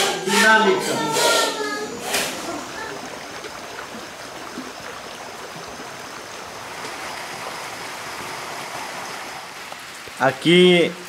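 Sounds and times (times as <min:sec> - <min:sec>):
stream babbling: 0:00.0 - 0:11.0.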